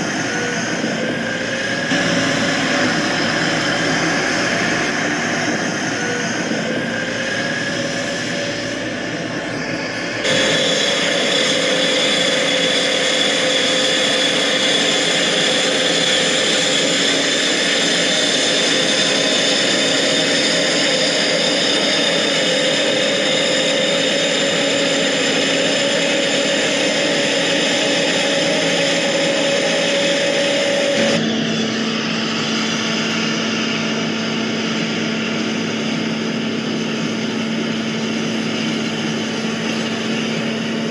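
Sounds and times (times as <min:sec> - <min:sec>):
drone propellers whining: 0:00.0 - 0:40.9.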